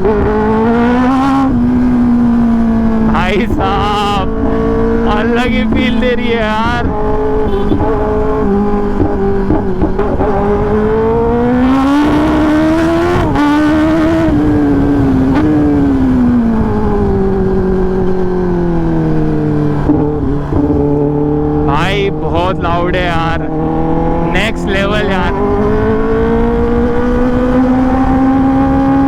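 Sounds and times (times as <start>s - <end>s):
motorcycle engine accelerating: 0.0s - 29.0s
wind rush: 0.0s - 29.0s.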